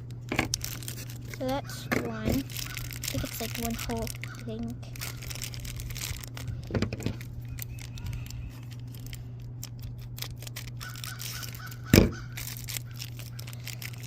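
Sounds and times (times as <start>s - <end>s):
cardboard and plastic rustling: 0.0s - 14.0s
low electrical hum: 0.0s - 14.0s.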